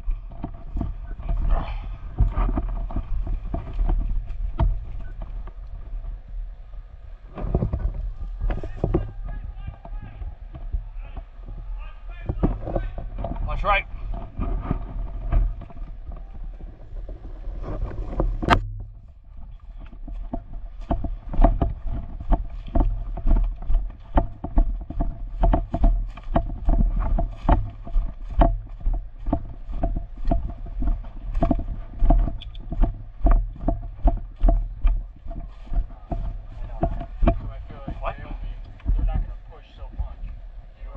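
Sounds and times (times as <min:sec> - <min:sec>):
footsteps with gear jostling: 0:00.0 - 0:05.9, 0:07.3 - 0:40.4.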